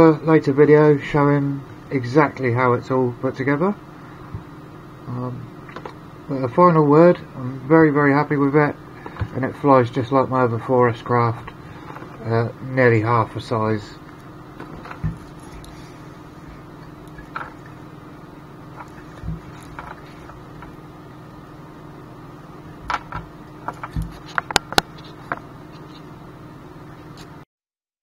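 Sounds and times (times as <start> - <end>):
steady low hum: 0.0 - 27.4.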